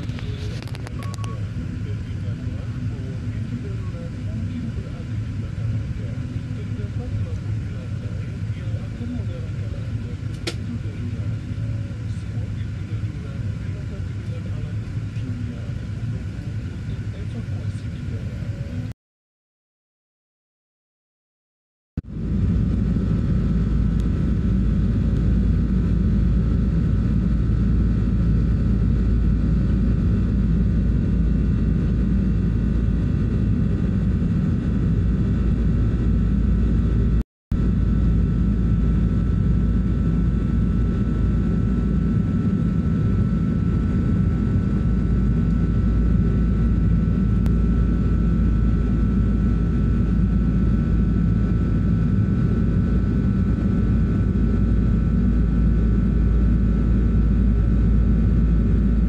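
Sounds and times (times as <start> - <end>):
jet engine noise in cabin: 0.0 - 18.9, 22.0 - 59.0
thin constant whine: 0.0 - 18.9, 22.1 - 59.0.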